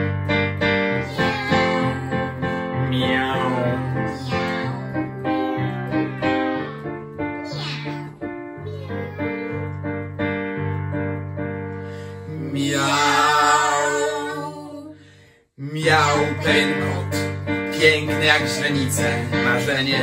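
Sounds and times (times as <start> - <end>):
digital piano playing: 0.0 - 14.1, 15.7 - 20.0.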